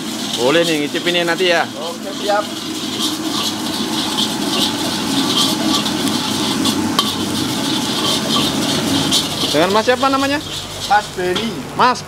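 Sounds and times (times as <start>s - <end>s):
metal spatula scraping wok: 0.0s - 11.6s
fried rice sizzling in a wok: 0.0s - 12.0s
spatula clink: 0.2s - 11.5s.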